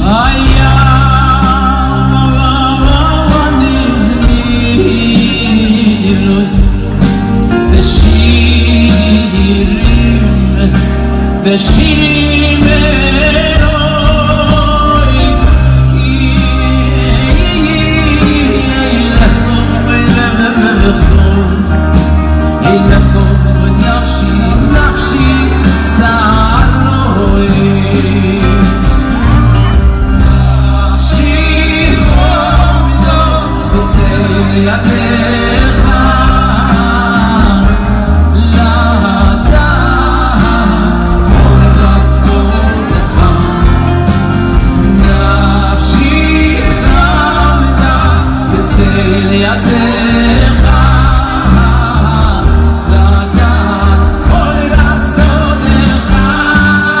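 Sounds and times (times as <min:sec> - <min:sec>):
band accompaniment with bass: 0:00.0 - 0:57.0
men singing a hymn: 0:07.7 - 0:28.9, 0:30.2 - 0:57.0.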